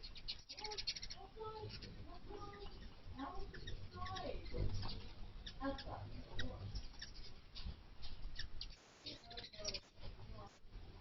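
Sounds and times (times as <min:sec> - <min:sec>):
bird chirps and chip notes: 0:00.0 - 0:10.0.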